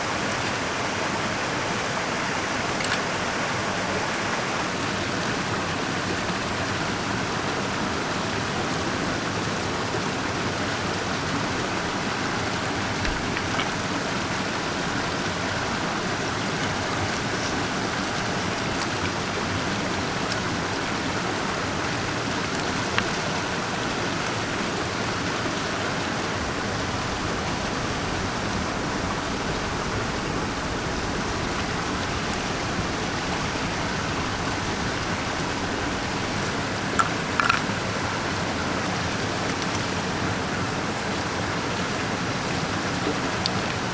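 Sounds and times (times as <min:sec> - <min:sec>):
mountain stream rushing: 0:00.0 - 0:43.9.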